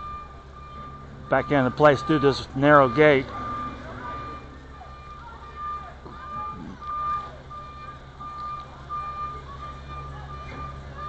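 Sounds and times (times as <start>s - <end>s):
truck engine humming: 0.0s - 11.0s
truck reversing alarm beeping: 0.0s - 11.0s.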